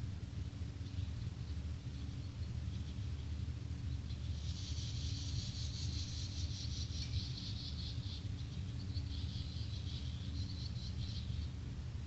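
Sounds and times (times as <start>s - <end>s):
nestling birds chattering: 0.6s - 11.7s.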